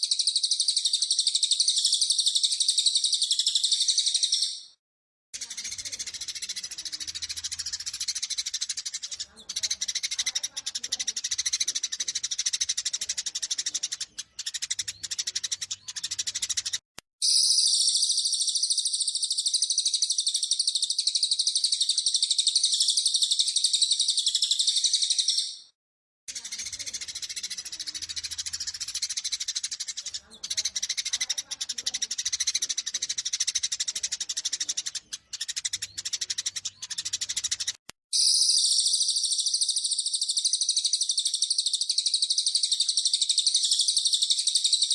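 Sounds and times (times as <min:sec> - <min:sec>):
sparrows chirping and chattering: 0:00.0 - 0:04.8, 0:05.4 - 0:44.9.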